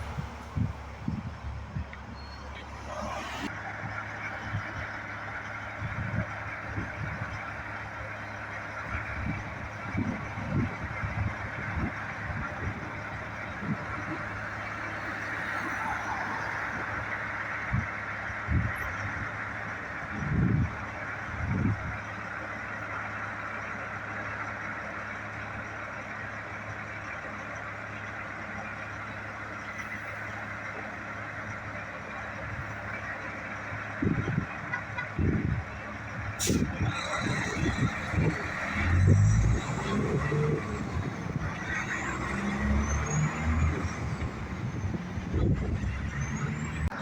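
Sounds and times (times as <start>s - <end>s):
road traffic rush: 0.0s - 47.0s
trucks and cars passing: 0.0s - 47.0s.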